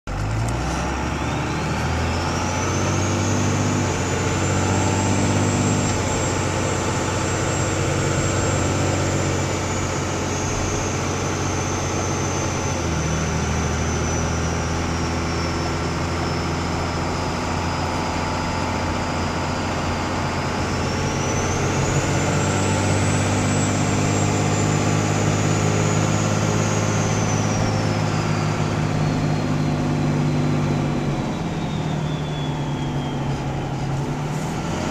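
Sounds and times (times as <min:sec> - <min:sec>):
diesel engine revving: 0:00.1 - 0:34.9
turbo whistle: 0:01.5 - 0:34.9.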